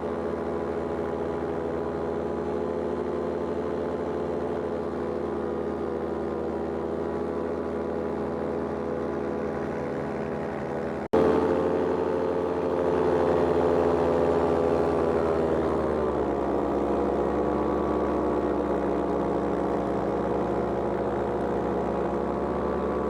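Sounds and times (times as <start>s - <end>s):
paramotor engine droning: 0.0s - 23.0s.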